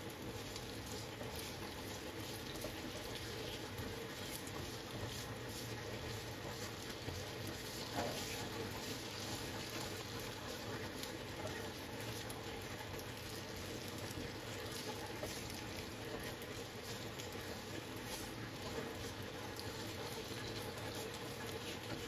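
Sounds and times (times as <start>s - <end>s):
food crackling in a pan: 0.0s - 22.0s.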